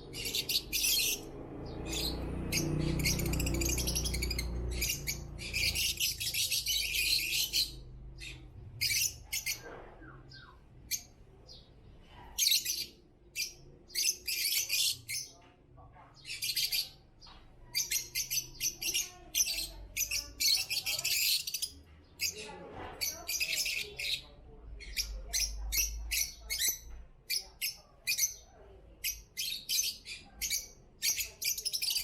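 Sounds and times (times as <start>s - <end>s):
lovebirds chirping: 0.0s - 15.5s, 16.1s - 32.0s.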